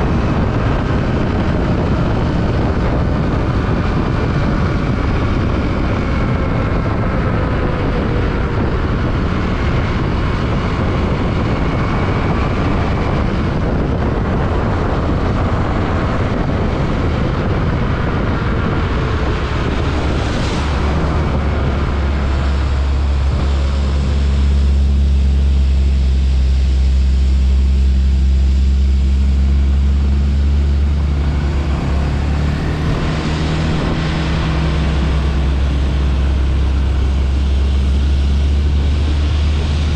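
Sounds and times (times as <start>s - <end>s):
motorcycle engine: 0.0s - 39.9s
wind rushing: 0.0s - 39.9s.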